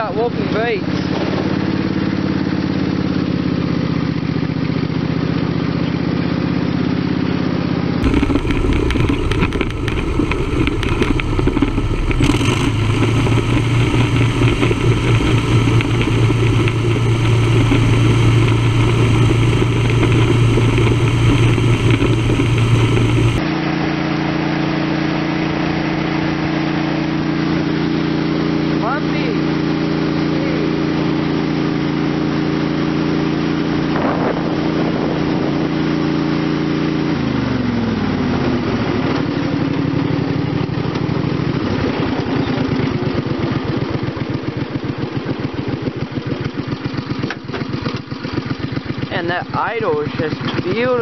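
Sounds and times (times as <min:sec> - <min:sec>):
small engine running: 0:08.0 - 0:39.4, 0:40.0 - 0:51.0.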